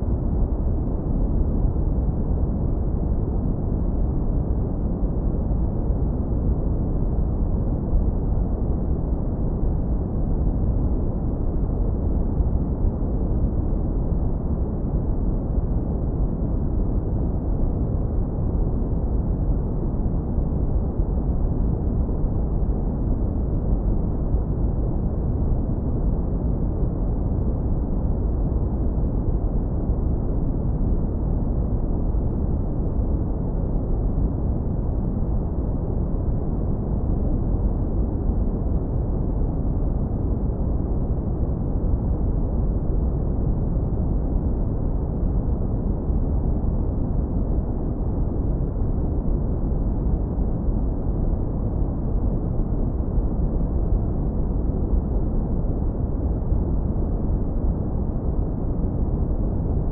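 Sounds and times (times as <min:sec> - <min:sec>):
low brown noise rumble: 0:00.0 - 0:59.9.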